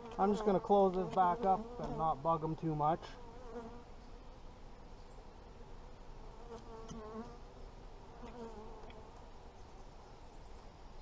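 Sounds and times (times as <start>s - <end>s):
honeybees buzzing: 0.0s - 10.1s.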